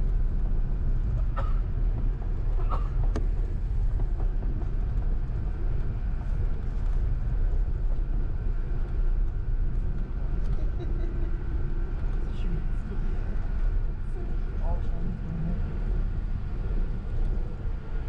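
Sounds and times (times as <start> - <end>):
aircraft cabin low rumble: 0.0 - 18.0.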